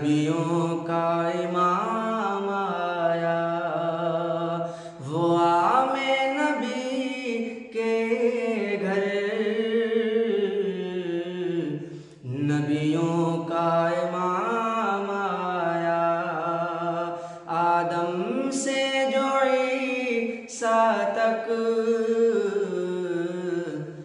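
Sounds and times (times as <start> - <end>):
man singing unaccompanied: 0.0 - 24.0.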